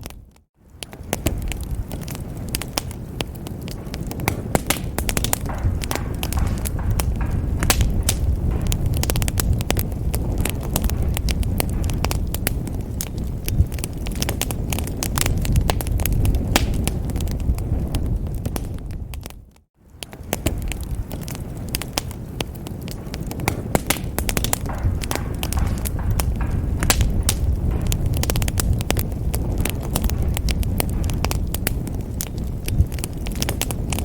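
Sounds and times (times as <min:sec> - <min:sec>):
fire crackling and popping: 0:00.0 - 0:34.0
flames rumbling: 0:00.0 - 0:34.0.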